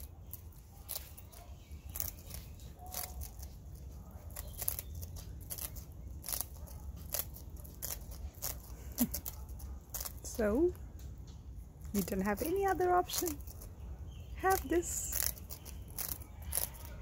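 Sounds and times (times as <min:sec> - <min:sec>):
bird crunching a biscuit: 0:00.0 - 0:17.0.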